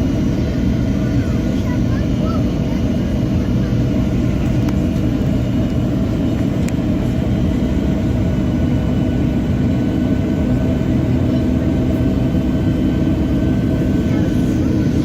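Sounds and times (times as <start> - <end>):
airplane engine rumble: 0.0 - 15.0.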